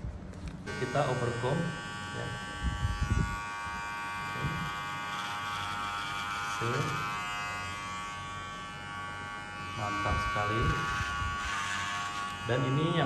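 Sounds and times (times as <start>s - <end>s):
electric hair clipper buzzing: 0.6s - 13.0s.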